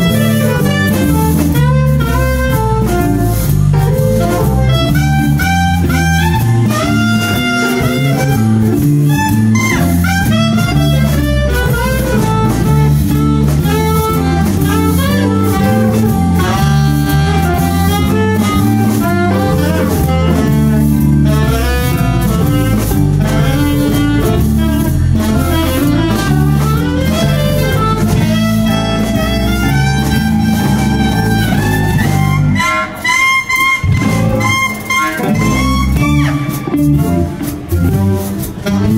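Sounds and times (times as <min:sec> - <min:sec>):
bass: 0:00.0 - 0:38.9
drums: 0:00.0 - 0:38.9
electric guitar: 0:00.0 - 0:38.9
saxophone: 0:00.0 - 0:38.9.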